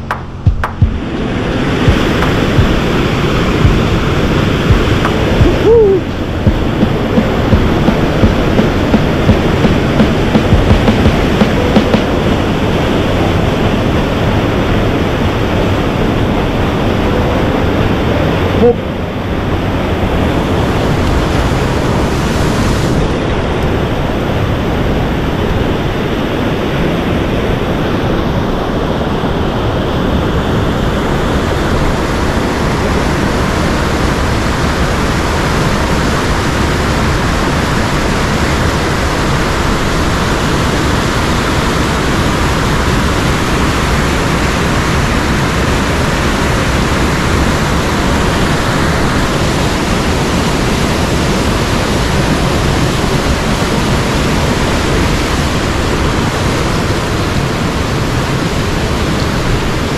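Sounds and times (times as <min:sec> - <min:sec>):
rushing stream water: 0:00.0 - 0:59.9.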